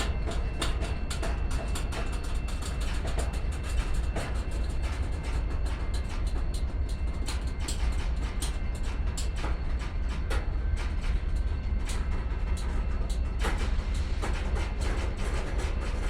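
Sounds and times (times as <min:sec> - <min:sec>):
train wheels clicking and clanking: 0:00.0 - 0:16.0.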